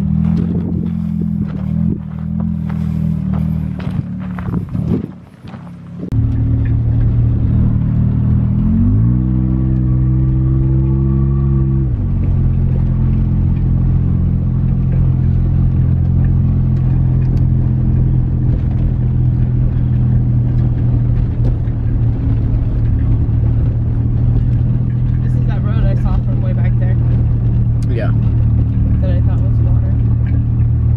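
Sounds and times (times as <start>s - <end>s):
car engine drone: 0.0s - 30.9s.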